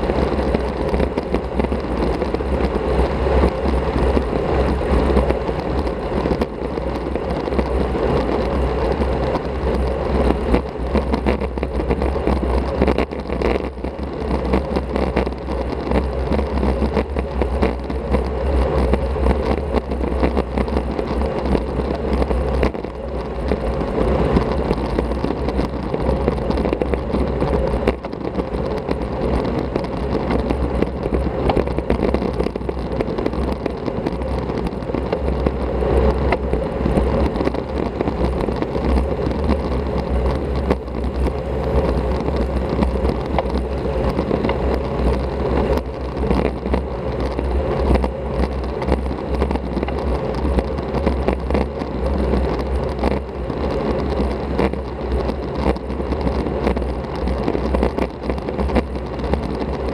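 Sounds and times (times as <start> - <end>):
bike tyre and road noise: 0.0 - 59.9.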